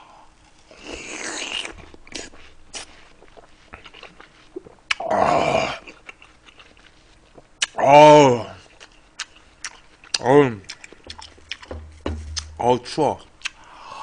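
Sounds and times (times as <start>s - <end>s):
man chewing watermelon: 0.5s - 7.8s, 8.4s - 12.6s, 13.3s - 13.8s.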